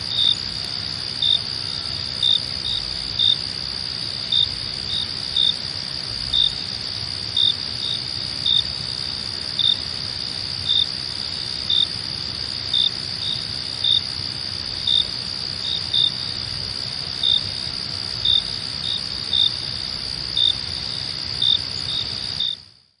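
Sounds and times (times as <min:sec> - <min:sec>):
crickets trilling: 0:00.0 - 0:22.8
loud cricket chirps: 0:00.0 - 0:23.0.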